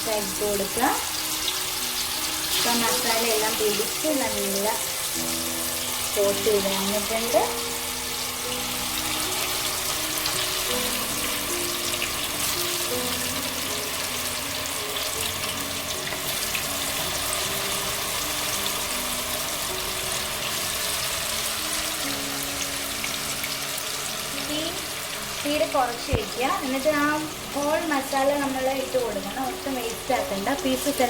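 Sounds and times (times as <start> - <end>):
chicken sizzling in hot oil: 0.0 - 31.0
soft background music: 0.0 - 31.0.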